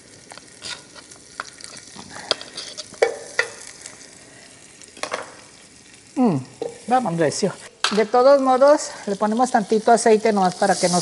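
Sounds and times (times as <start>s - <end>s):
low frying sizzle: 0.0s - 11.0s.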